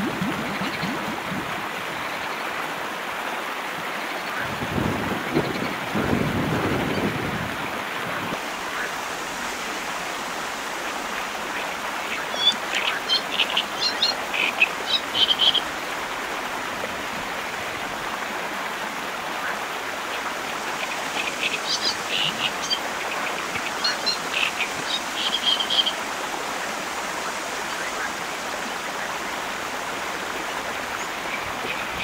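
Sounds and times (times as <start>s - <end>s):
river flowing over stones: 0.0s - 32.0s.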